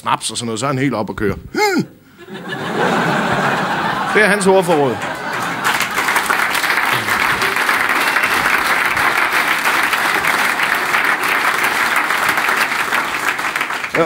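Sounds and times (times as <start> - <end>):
audience applauding: 2.4 - 14.0.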